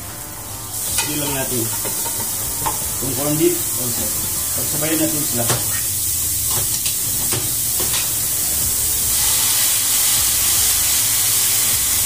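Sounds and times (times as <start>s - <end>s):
mushrooms sizzling in a frying pan: 0.0s - 12.0s.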